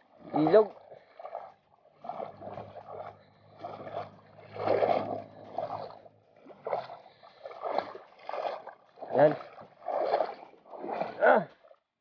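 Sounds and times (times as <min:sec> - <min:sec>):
water sloshing around wading legs: 0:00.0 - 0:12.0.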